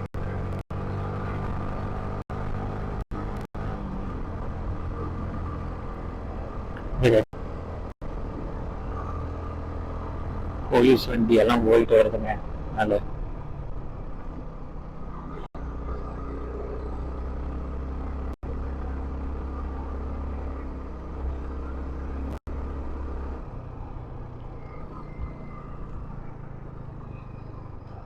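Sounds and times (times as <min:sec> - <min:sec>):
motorcycle engine drone: 0:00.0 - 0:28.0
road and wind noise: 0:00.0 - 0:28.0.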